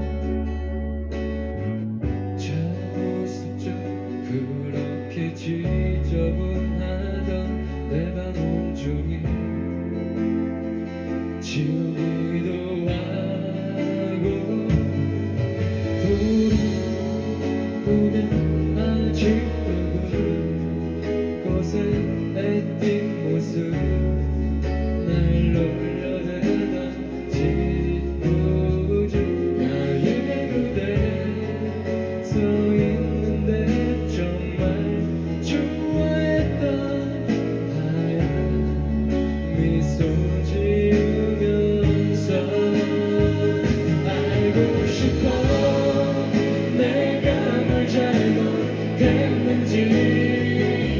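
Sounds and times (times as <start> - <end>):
live pop band playing ballad: 0.0 - 50.9
person singing: 1.6 - 50.9.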